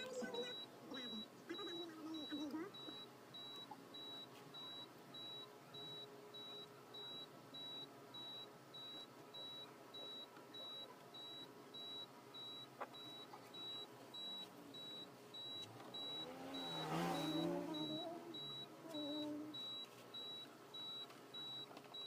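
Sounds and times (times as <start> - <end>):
car warning chime beeping: 0.0 - 22.0.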